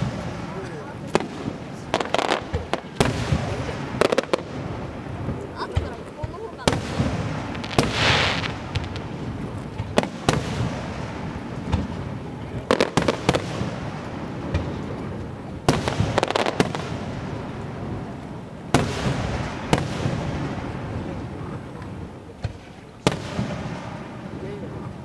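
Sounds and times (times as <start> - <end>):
firework bangs with echo: 0.0 - 24.9.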